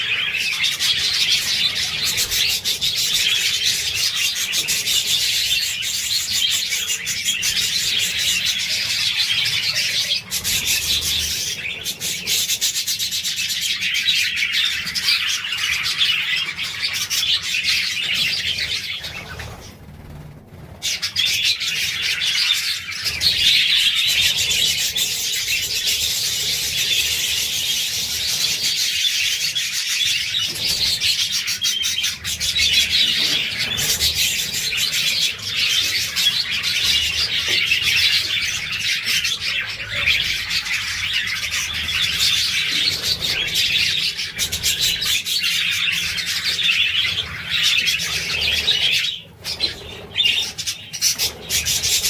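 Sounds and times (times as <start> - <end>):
budgerigars chattering and chirping: 0.0 - 52.0.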